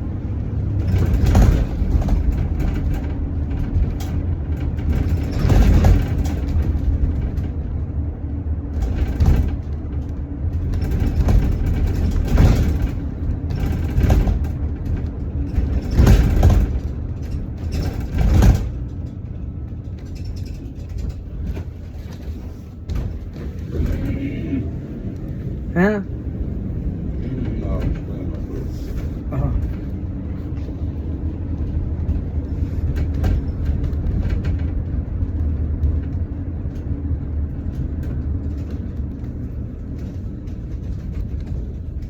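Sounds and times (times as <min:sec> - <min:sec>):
bus engine rumble: 0:00.0 - 0:42.0
rattle and road noise: 0:00.0 - 0:42.0.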